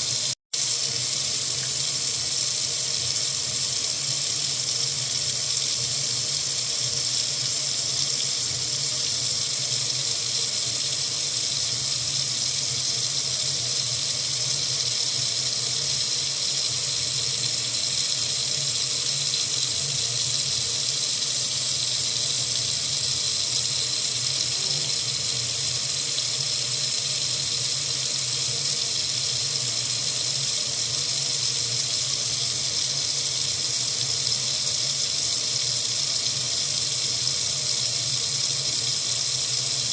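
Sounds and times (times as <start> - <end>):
water running from a faucet: 0.0 - 39.9.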